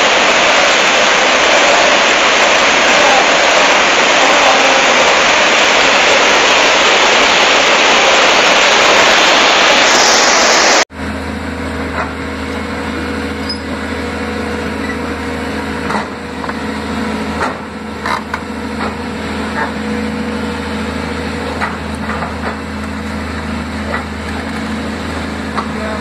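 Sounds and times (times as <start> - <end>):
excavator diesel engine humming: 0.0 - 26.0
flood river roaring: 0.0 - 26.0.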